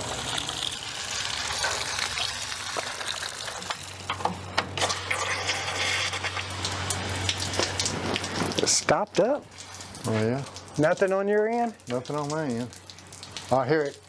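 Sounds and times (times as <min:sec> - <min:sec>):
garden hose spraying water: 0:00.0 - 0:14.0.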